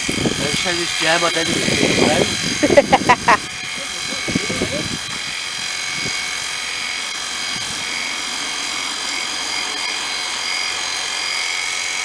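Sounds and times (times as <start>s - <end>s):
high-pitched mechanical whine: 0.0s - 12.0s.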